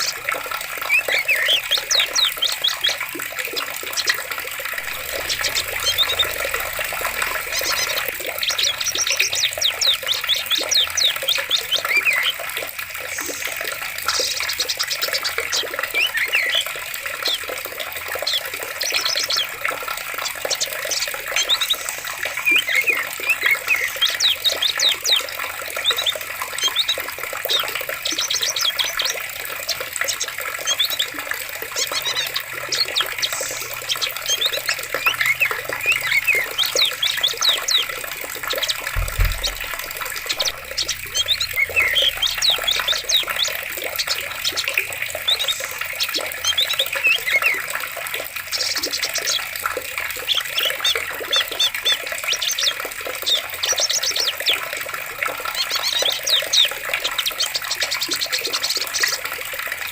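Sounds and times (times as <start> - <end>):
birds chirping and trilling: 0.0 - 59.9
running water: 0.0 - 59.9.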